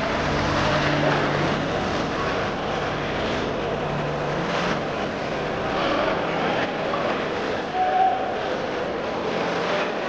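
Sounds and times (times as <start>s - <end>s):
crowd chatter: 0.0s - 10.0s.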